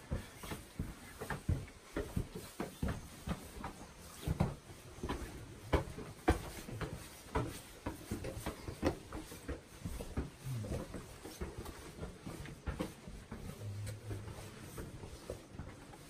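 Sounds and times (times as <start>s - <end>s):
footsteps on stone steps: 0.0s - 16.0s.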